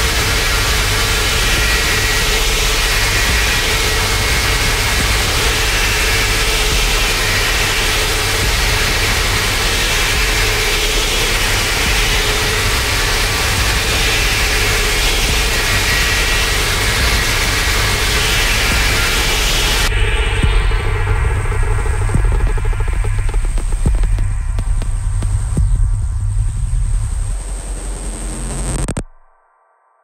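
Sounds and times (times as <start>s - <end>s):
electronic hiss: 0.0s - 29.1s
low rumbling drone: 0.0s - 29.2s.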